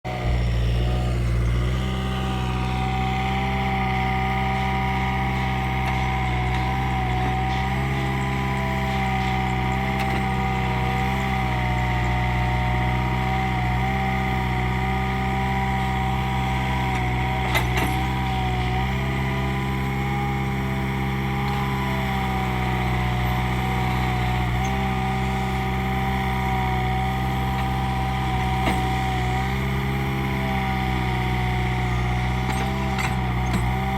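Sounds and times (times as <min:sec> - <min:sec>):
excavator engine running: 0:00.1 - 0:33.9.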